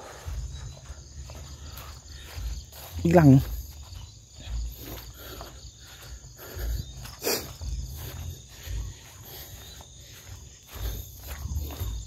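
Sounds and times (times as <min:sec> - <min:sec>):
footsteps through grass and dirt: 0:00.0 - 0:12.0
insects chirring: 0:00.0 - 0:12.0.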